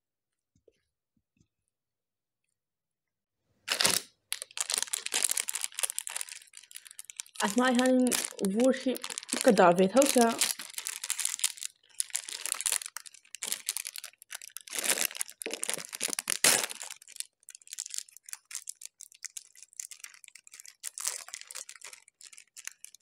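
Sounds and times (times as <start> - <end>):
plastic wrapper crinkling: 3.7 - 23.0.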